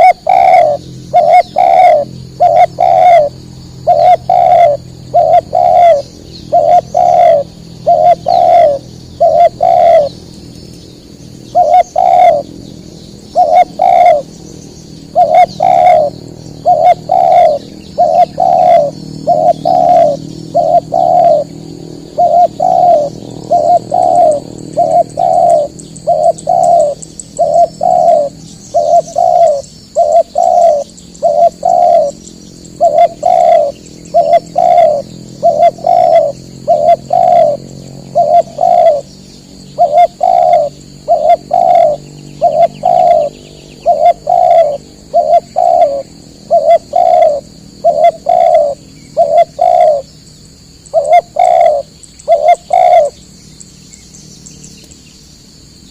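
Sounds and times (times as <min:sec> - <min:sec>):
dove cooing: 0:00.0 - 0:10.2, 0:11.5 - 0:12.5, 0:13.2 - 0:14.3, 0:15.0 - 0:32.2, 0:32.8 - 0:39.1, 0:39.8 - 0:50.1, 0:50.9 - 0:53.2.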